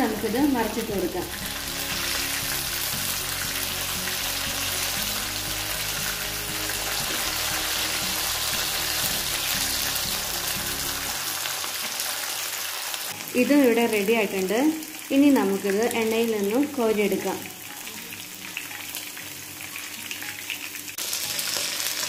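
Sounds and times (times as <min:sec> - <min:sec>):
chicken sizzling in hot oil: 0:00.0 - 0:22.0
soft background music: 0:00.0 - 0:22.0.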